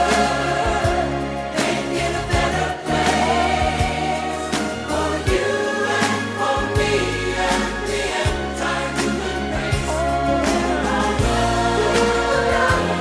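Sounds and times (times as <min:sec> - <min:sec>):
choir singing over a beat: 0:00.0 - 0:13.0.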